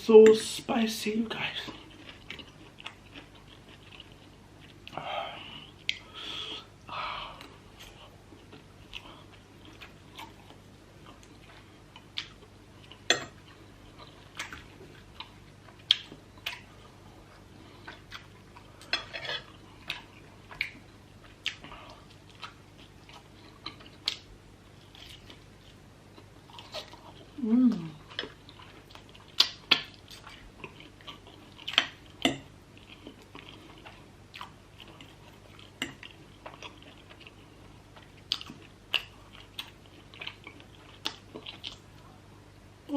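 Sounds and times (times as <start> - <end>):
close chewing: 1.4 - 5.0, 7.4 - 42.2.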